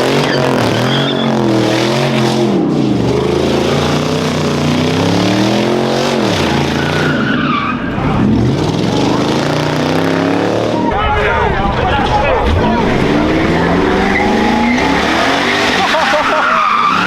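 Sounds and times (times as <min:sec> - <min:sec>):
tyres screeching: 0:00.0 - 0:02.3, 0:04.0 - 0:17.0
car engine revving: 0:00.0 - 0:17.0.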